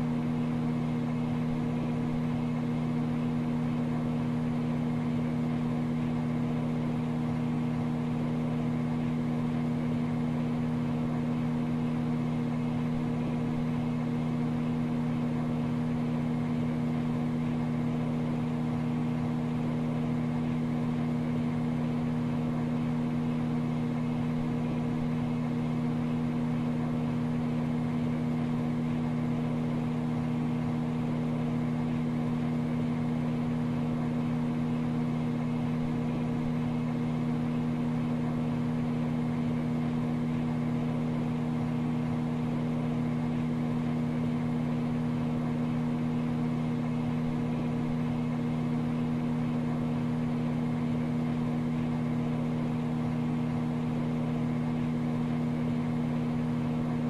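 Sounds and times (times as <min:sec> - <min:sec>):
microwave oven hum: 0:00.0 - 0:57.0.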